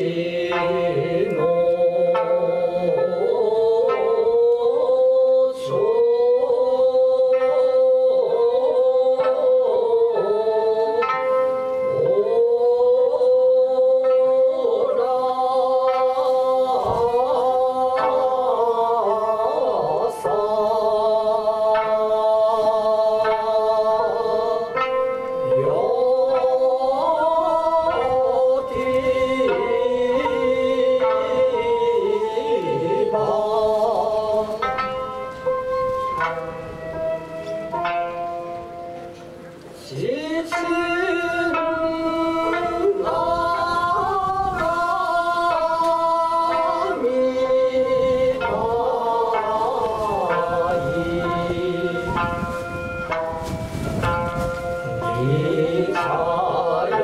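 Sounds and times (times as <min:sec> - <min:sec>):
plucked lute: 0:00.0 - 0:05.9, 0:07.3 - 0:13.2, 0:14.0 - 0:57.0
person singing long sliding notes: 0:00.0 - 0:57.0.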